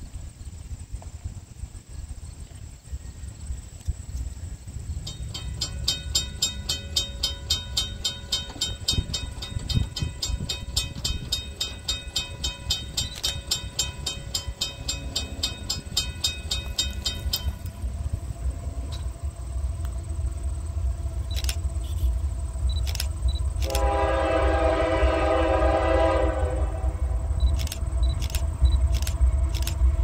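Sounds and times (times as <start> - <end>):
low rumble: 0.0 - 30.0
crossing warning bell ringing: 5.0 - 29.9.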